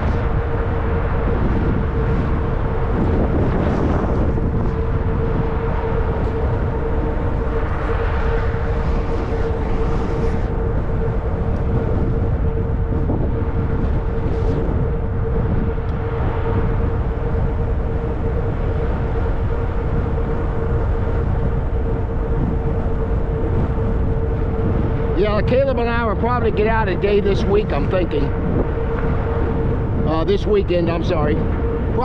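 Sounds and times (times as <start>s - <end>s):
electric motor whine: 0.0s - 32.0s
wind buffeting microphone: 0.0s - 32.0s.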